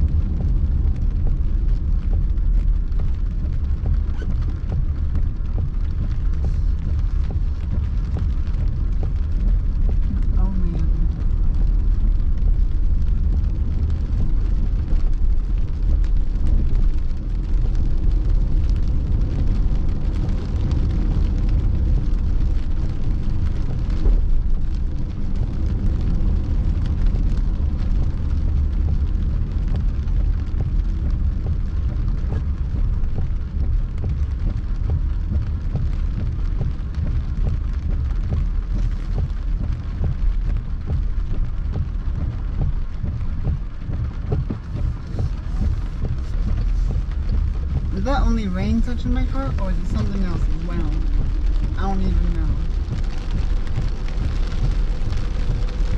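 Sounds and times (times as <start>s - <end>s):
heavy rain on car roof: 0.0s - 55.9s
road and engine rumble: 0.0s - 55.9s.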